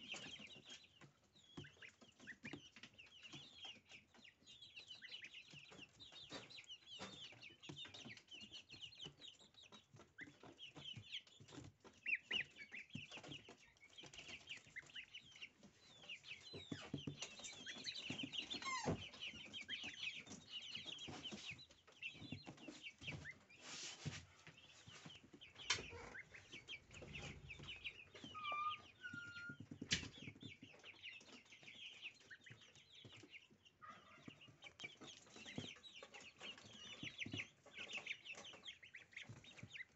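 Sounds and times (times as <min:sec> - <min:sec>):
goslings peeping: 0:00.0 - 0:39.9.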